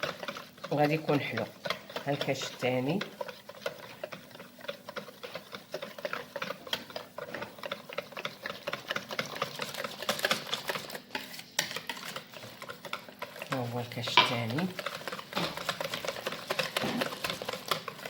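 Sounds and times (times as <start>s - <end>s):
utensil clattering against bowl: 0.0s - 18.0s.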